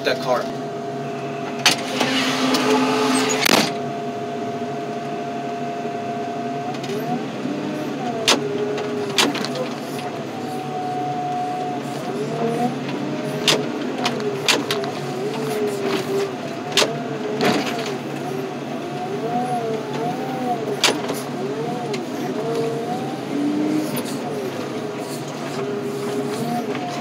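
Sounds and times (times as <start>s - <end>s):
diesel engine droning: 0.0s - 27.0s
hydraulic whine: 0.0s - 27.0s.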